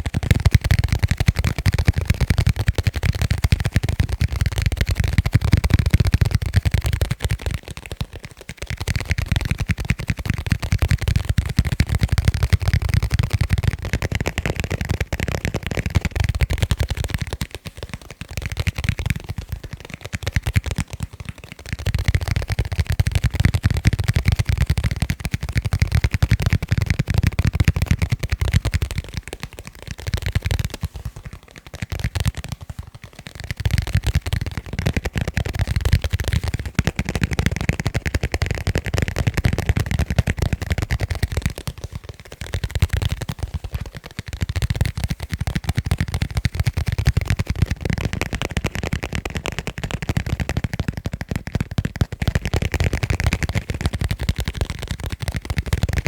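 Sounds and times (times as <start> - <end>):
fast tapping on leather: 0.0 - 56.0.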